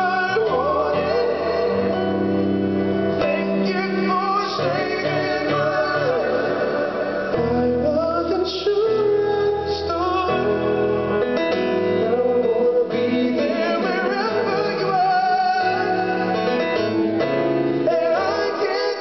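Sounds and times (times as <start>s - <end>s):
men singing together: 0.0s - 2.3s, 3.2s - 10.8s, 12.1s - 16.6s, 17.8s - 19.0s
grand piano: 0.0s - 19.0s.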